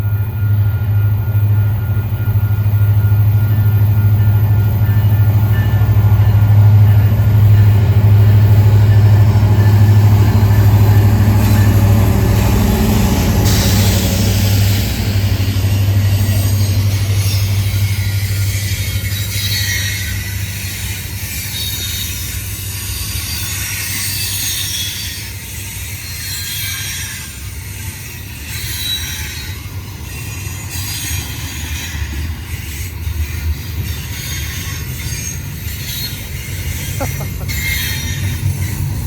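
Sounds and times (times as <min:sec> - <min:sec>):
freight train rumbling: 0:00.0 - 0:39.0
high-pitched wheel noise on rails: 0:00.0 - 0:39.0.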